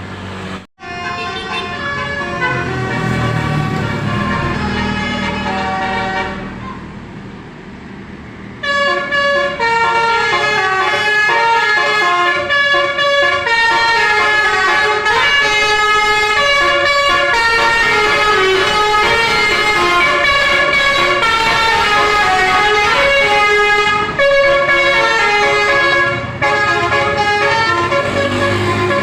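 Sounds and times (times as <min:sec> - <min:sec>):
multi-tone bus horn melody: 0:00.7 - 0:07.0, 0:08.6 - 0:29.0.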